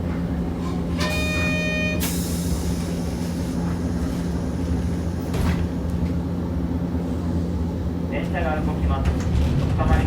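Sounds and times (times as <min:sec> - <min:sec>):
streetcar hum and rumble: 0:00.0 - 0:10.0.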